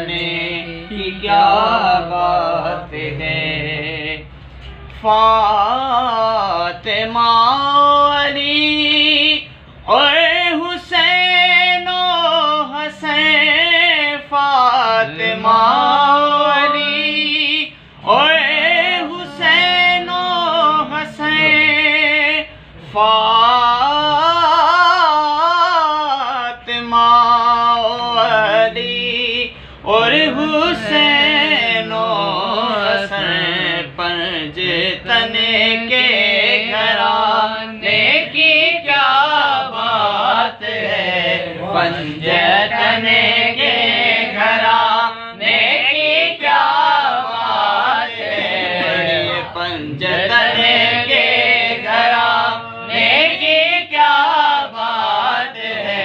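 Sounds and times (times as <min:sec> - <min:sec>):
man singing unaccompanied: 0:00.0 - 0:56.0.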